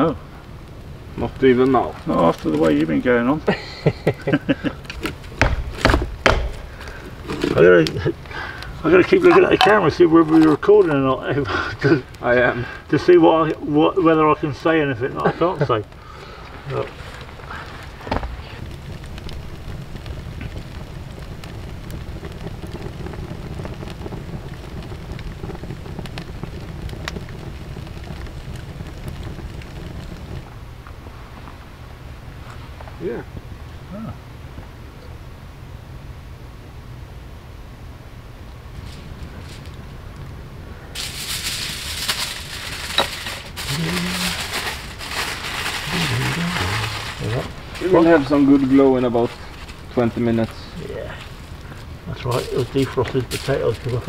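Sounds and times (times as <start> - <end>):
campfire crackling and popping: 0.0 - 54.0
wind rumble on microphone: 4.0 - 54.0.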